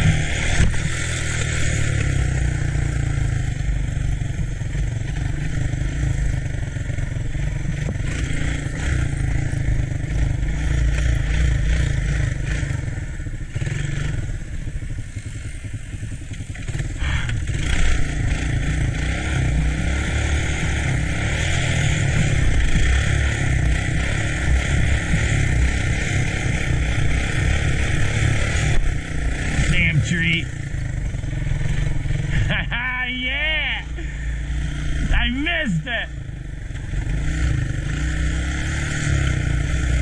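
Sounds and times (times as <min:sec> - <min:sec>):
three-wheeler engine running: 0:00.0 - 0:40.0.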